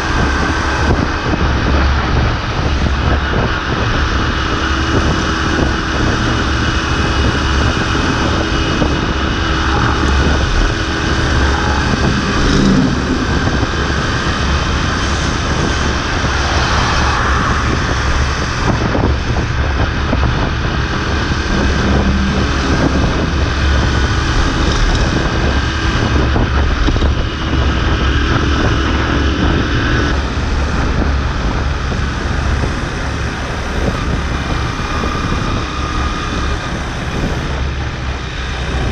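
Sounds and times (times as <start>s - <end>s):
motorbike engine drone: 0.0s - 38.9s
wind on microphone: 0.0s - 38.9s.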